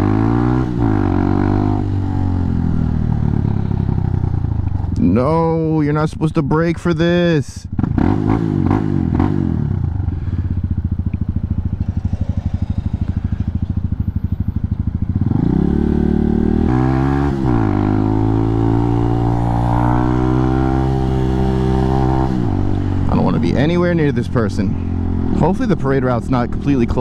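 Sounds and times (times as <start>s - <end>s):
motorcycle engine: 0.0s - 27.0s.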